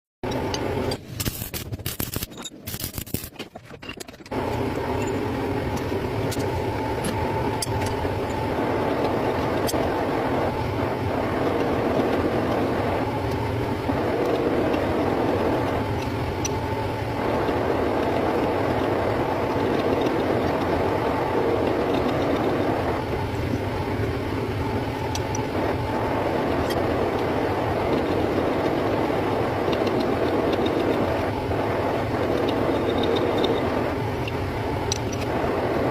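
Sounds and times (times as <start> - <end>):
metal lathe humming and rattling: 0.3 - 35.9.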